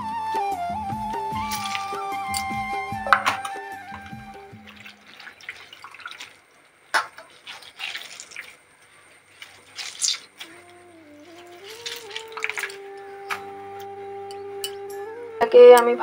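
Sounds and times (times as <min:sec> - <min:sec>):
water dripping into a steel bowl: 0:01.3 - 0:10.7, 0:11.4 - 0:15.0.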